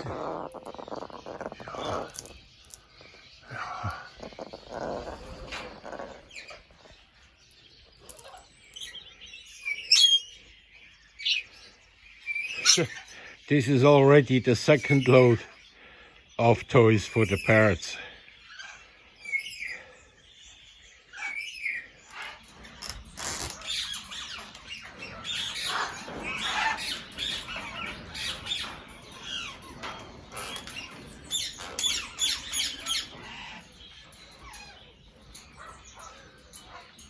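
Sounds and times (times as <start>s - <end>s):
parrots squawking and chirping: 0.0s - 10.6s, 11.2s - 13.4s, 14.5s - 16.3s, 16.9s - 37.0s.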